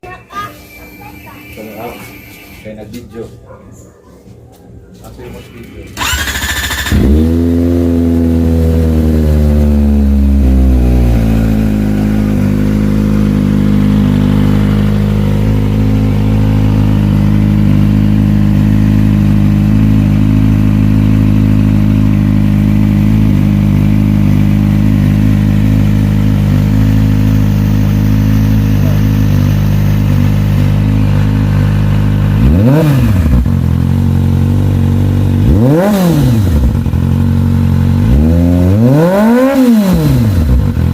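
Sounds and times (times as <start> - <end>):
motorcycle engine starting and idling: 5.7 - 40.9
motorcycle throttle revs: 5.9 - 40.9.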